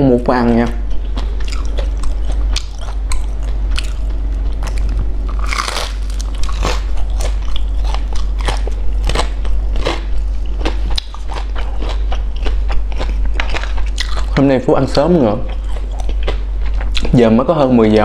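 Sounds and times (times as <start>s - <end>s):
crunchy snack chewing: 0.9s - 17.2s.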